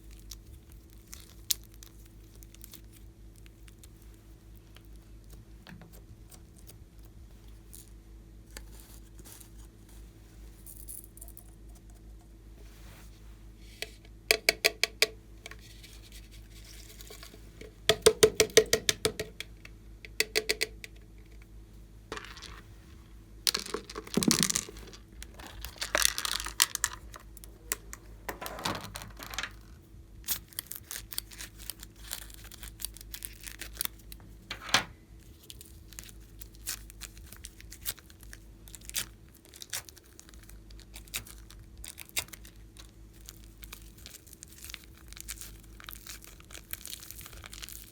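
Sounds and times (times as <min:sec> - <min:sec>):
faint steady hum: 0:00.0 - 0:47.9.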